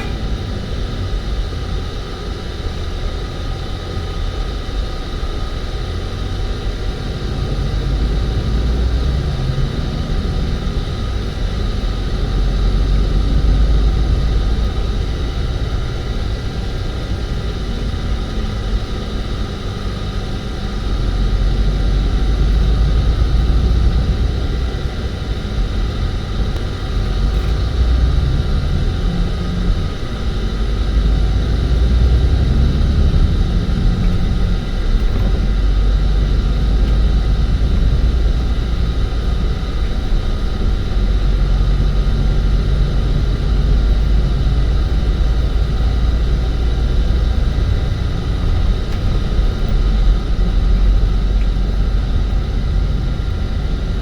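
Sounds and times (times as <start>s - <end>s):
traffic rumble: 0.0s - 1.9s, 7.1s - 54.0s.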